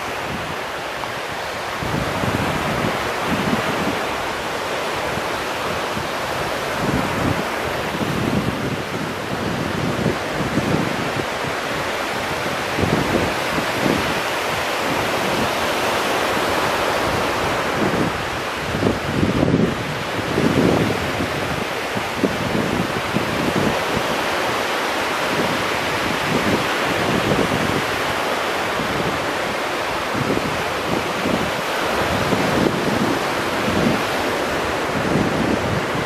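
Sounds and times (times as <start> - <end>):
waves breaking on beach: 0.0 - 36.0
wind gusting on microphone: 0.0 - 36.0.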